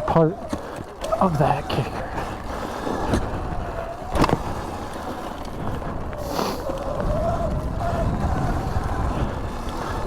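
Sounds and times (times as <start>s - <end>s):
electric dirt bike motor whining: 0.0s - 10.0s
wind rumble on microphone: 0.0s - 10.0s.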